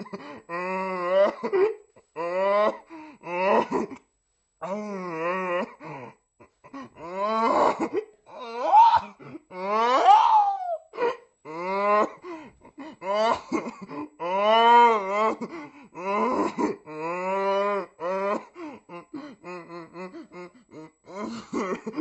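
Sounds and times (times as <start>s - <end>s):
man wailing sobs: 0.0s - 3.9s, 4.6s - 22.0s.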